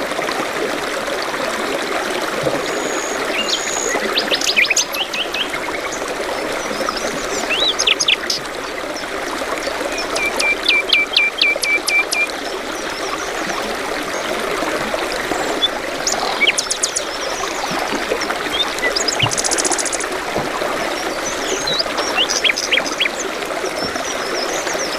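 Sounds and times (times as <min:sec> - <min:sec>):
brook babbling: 0:00.0 - 0:24.9
songbirds chirping: 0:02.7 - 0:14.4, 0:15.3 - 0:24.9.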